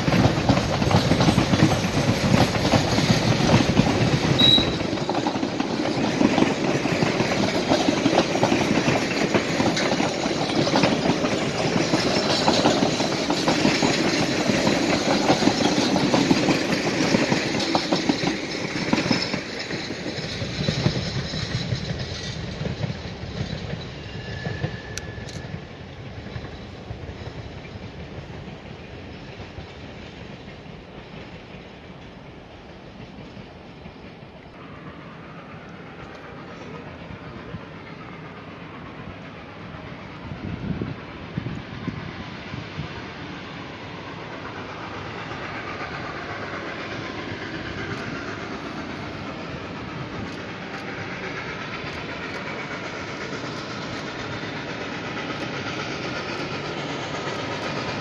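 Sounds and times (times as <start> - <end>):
train clickety-clack on rails: 0.0 - 58.0.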